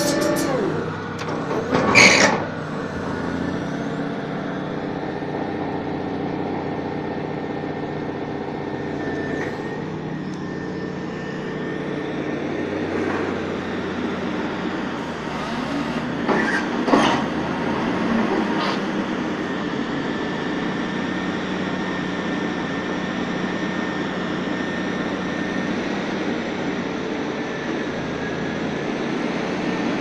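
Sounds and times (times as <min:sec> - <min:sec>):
piling rig running: 0:00.0 - 0:28.7.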